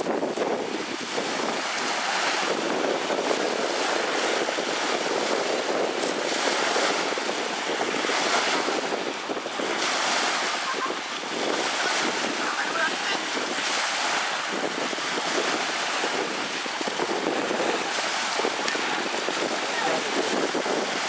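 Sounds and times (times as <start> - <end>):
small waves washing ashore: 0.0 - 21.0
wind buffeting microphone: 0.0 - 21.0.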